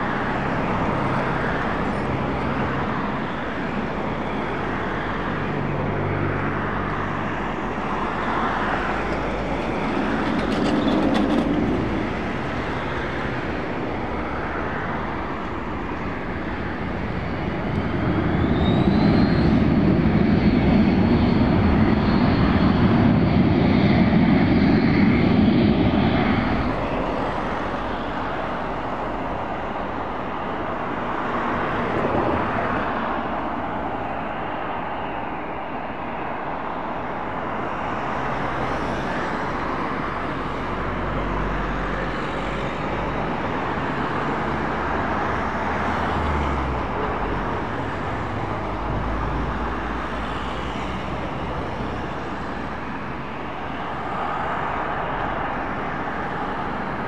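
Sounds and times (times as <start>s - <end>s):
distant traffic rumble: 0.0s - 57.0s.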